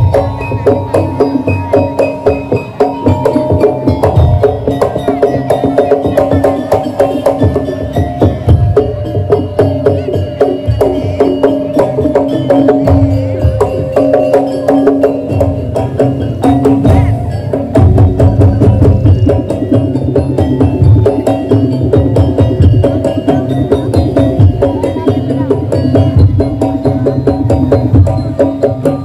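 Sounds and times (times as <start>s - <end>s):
heavy low drums: 0.0s - 29.0s
percussion ensemble playing: 0.0s - 29.0s.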